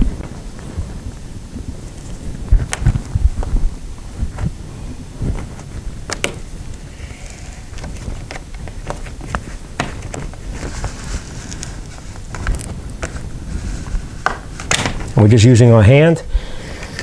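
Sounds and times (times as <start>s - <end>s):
cables rustling: 0.0s - 15.6s.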